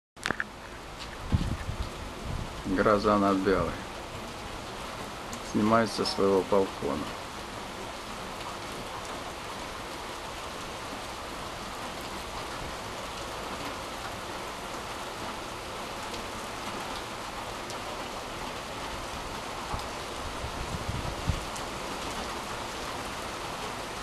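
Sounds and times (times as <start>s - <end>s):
heavy rain pouring: 0.2s - 24.0s.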